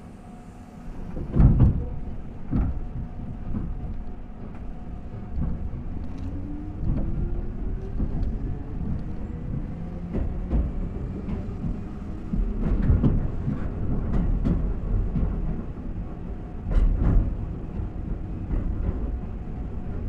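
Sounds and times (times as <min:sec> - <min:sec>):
train wheels rumbling on track: 0:00.0 - 0:20.0
wheels clicking over rail joints: 0:01.2 - 0:20.0.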